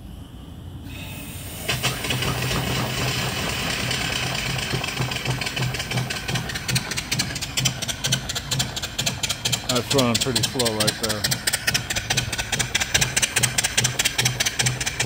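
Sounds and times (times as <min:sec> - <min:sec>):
steam hissing: 0:00.8 - 0:15.0
steam engine exhaust chuffs: 0:00.9 - 0:15.0.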